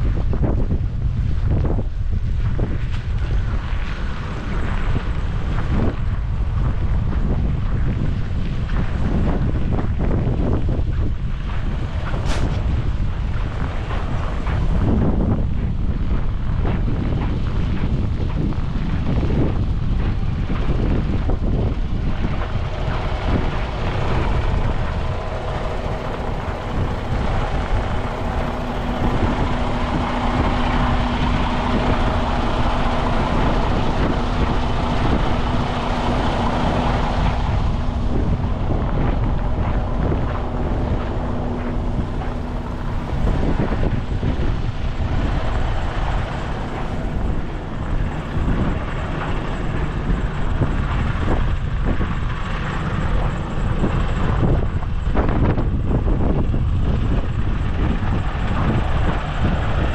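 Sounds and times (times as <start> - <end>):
low steady hum: 0.0 - 59.9
wind buffeting microphone: 0.0 - 59.9.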